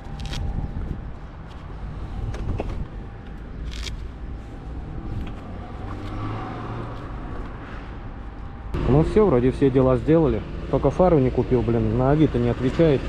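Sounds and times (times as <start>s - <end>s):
road and traffic noise: 0.0s - 13.0s
vehicle engine rumbling: 0.0s - 13.0s.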